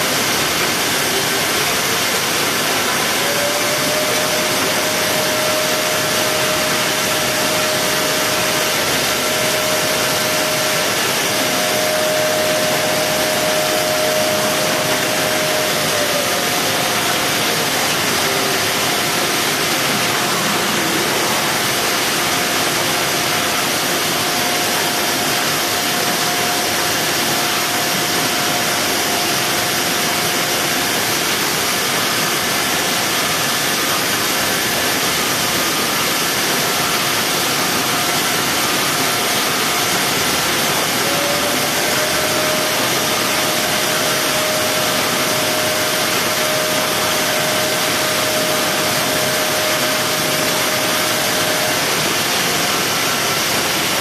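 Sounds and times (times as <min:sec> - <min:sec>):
machinery hiss: 0:00.0 - 0:54.0
motor whine: 0:00.0 - 0:54.0.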